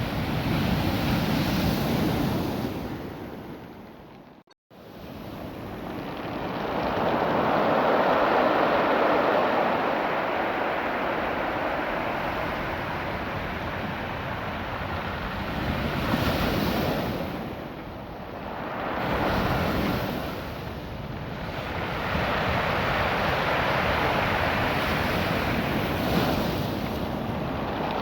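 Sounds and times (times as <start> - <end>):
waves washing over pebbles: 5.0 - 28.0.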